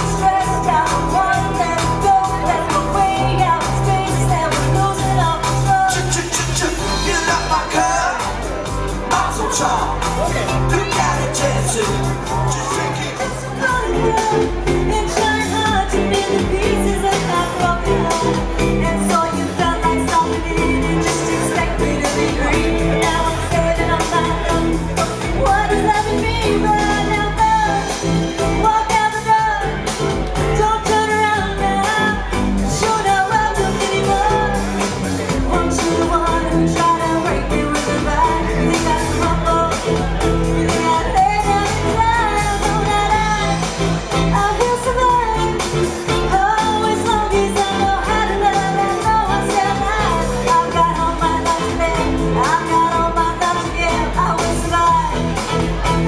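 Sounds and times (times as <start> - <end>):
pop-rock band playing: 0.0 - 56.0
woman singing: 0.0 - 56.0.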